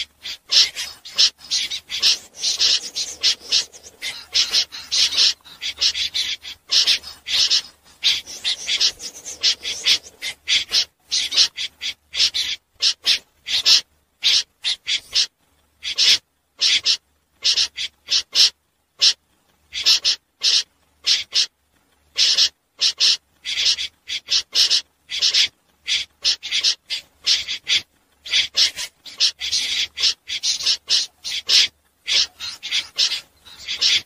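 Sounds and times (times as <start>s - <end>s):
snipe calling: 0.0s - 21.5s, 22.1s - 34.0s.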